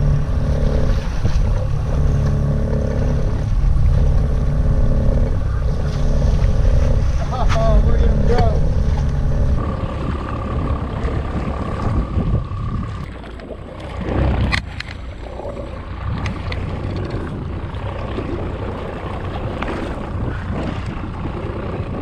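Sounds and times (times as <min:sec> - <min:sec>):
steady low rumble: 0:00.0 - 0:22.0
waves around boat: 0:00.0 - 0:22.0
wind buffeting microphone: 0:00.0 - 0:22.0.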